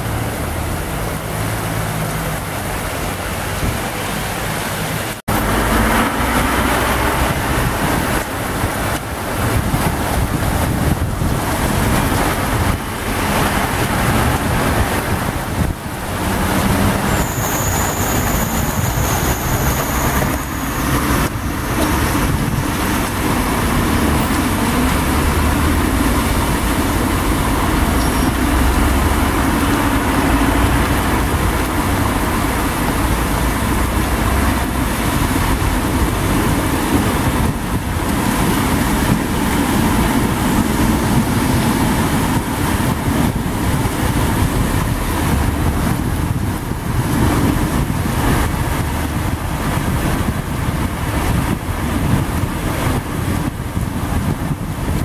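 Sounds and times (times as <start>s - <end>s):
heavy rain falling: 0.0s - 55.0s
vehicle rumble passing: 0.0s - 55.0s
vehicles splashing through water: 0.0s - 55.0s.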